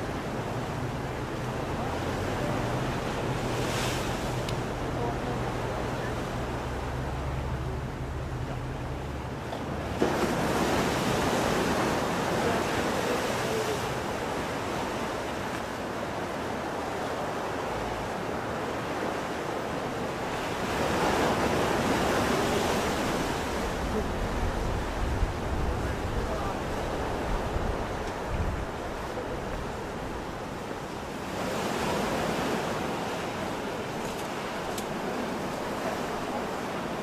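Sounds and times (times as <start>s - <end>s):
ocean waves breaking on shore: 0.0s - 37.0s.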